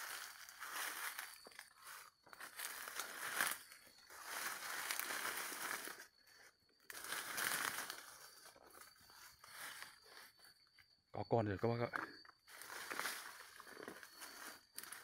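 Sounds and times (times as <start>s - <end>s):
leaves and stems rustling: 0.0s - 10.5s, 12.5s - 15.0s.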